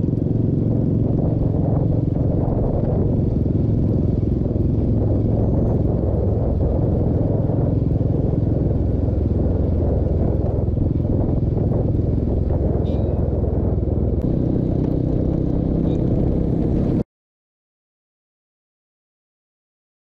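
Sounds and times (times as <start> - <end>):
motorcycle engine rumble: 0.0 - 17.0.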